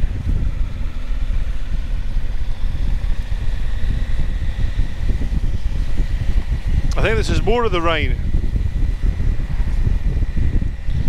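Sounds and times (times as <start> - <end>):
wind buffeting microphone: 0.0 - 11.0
faint high whine: 0.1 - 11.0.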